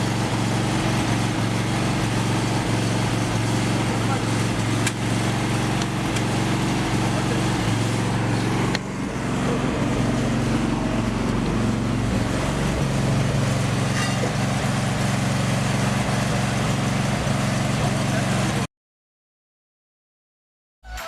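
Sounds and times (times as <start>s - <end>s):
engine running: 0.0s - 18.7s.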